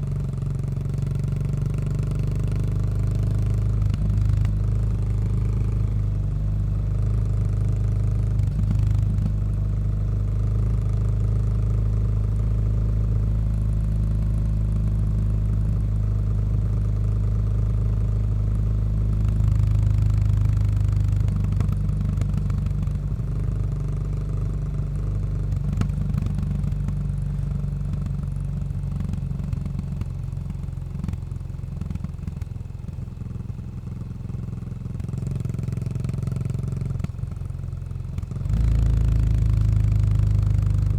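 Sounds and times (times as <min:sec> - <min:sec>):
motorcycle exhaust running: 0:00.0 - 0:40.9.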